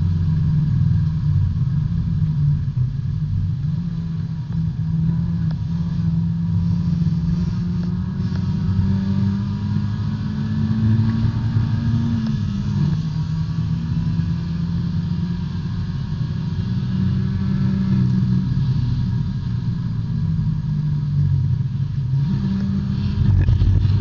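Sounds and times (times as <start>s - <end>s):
race car engine under load: 0.0s - 24.0s.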